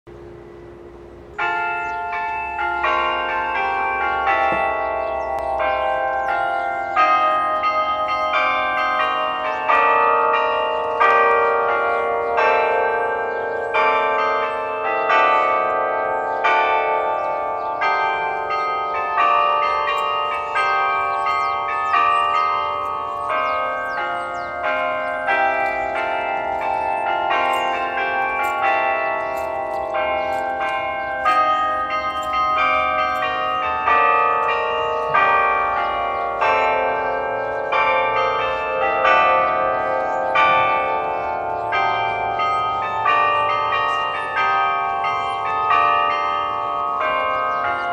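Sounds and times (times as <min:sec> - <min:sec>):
bell chimes playing a tune: 0:00.3 - 0:47.9.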